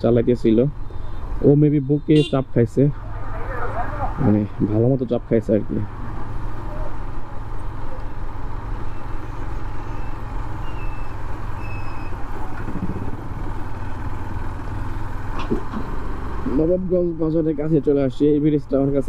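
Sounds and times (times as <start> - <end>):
motorcycle engine rumbling: 0.0 - 19.0
road noise: 0.0 - 19.0.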